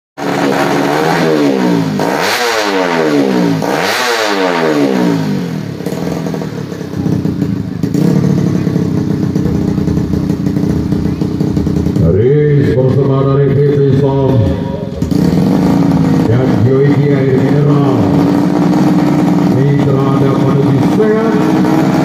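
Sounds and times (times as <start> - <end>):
motorbike engine revving: 0.2 - 22.0.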